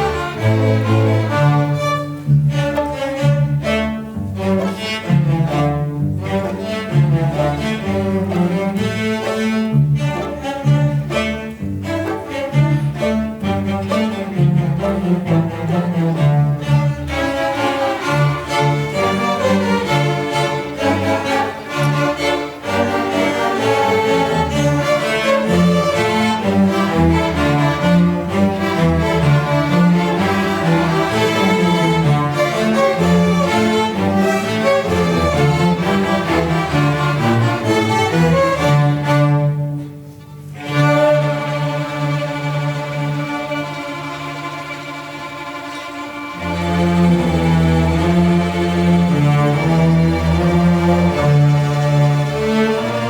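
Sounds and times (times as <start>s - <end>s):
string orchestra playing: 0.0s - 53.0s.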